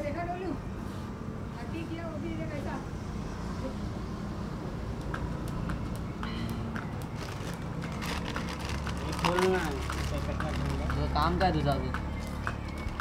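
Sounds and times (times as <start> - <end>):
low hum of street ambience: 0.0 - 13.0.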